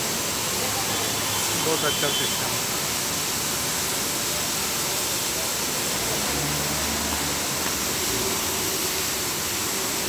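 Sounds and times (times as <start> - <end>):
car wash machinery hissing: 0.0 - 10.0
water spray: 0.0 - 10.0.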